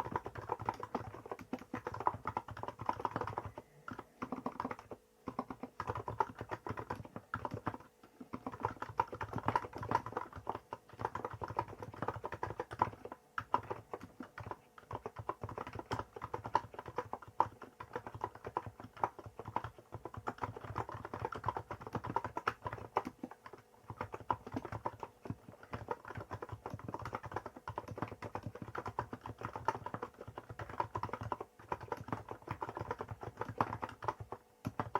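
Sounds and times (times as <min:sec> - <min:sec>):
fast keyboard typing: 0:00.0 - 0:34.9.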